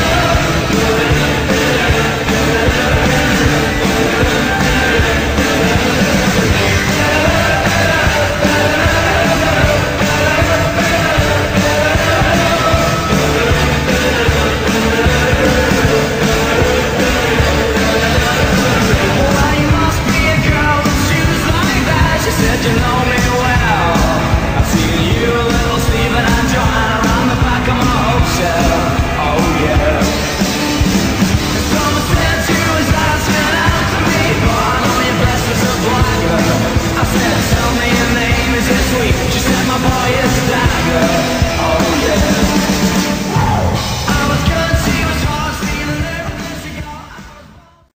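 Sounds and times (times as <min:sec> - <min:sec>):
upbeat rock song with singing: 0:00.0 - 0:47.9.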